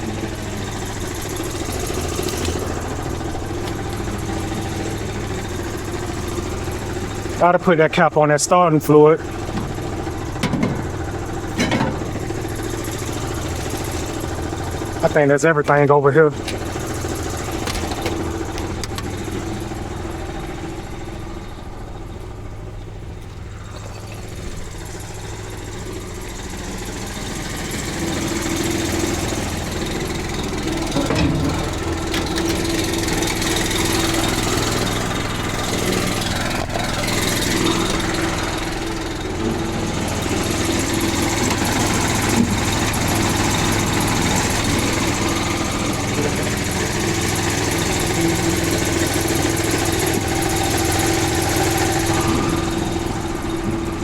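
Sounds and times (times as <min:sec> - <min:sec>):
air compressor engine running: 0:00.0 - 0:54.0.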